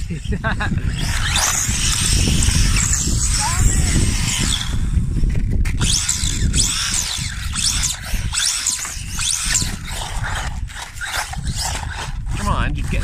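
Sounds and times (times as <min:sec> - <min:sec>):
electric rc car motor whining: 0:00.0 - 0:13.0.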